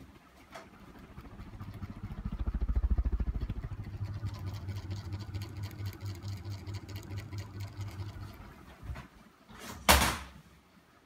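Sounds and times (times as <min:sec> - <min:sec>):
ceiling fan running: 0:00.0 - 0:11.0.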